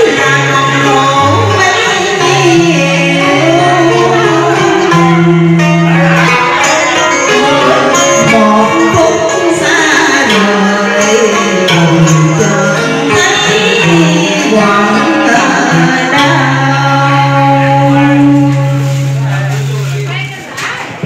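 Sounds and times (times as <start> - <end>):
plucked string melody: 0.0 - 21.0.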